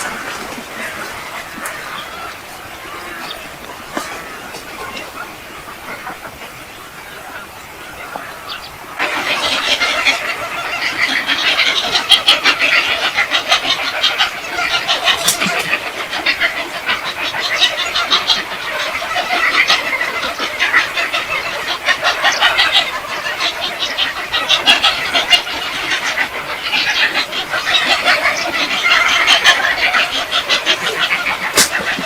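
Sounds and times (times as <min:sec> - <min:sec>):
flock of birds chattering: 0:00.0 - 0:32.0.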